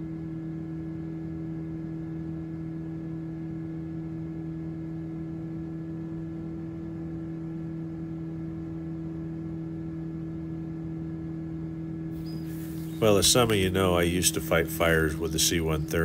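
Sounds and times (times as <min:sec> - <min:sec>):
light airplane engine drone: 0:00.0 - 0:16.0.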